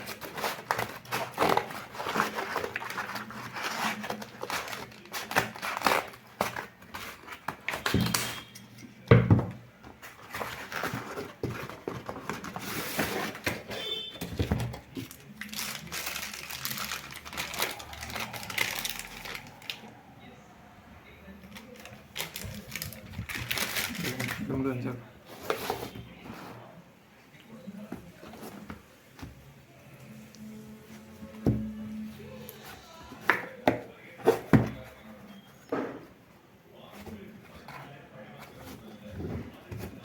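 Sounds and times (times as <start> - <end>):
cardboard and plastic rustling: 0.0 - 19.9, 21.4 - 26.8, 27.5 - 29.5, 30.4 - 40.0.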